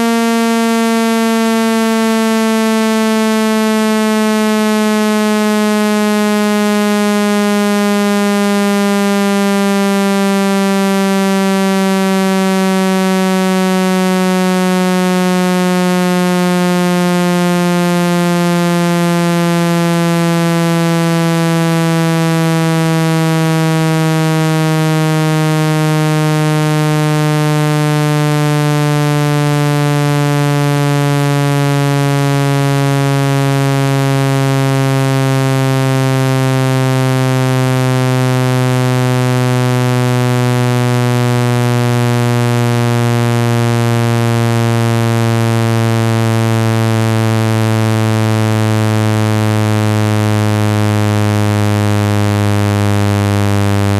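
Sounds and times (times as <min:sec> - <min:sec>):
low buzzy tone sliding downward: 0:00.0 - 0:53.9.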